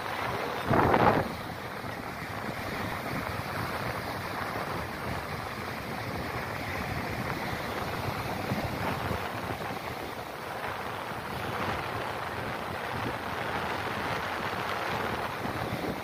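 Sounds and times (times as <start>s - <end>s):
sea surf breaking on shore: 0.0s - 16.0s
wind buffeting microphone: 0.0s - 16.0s.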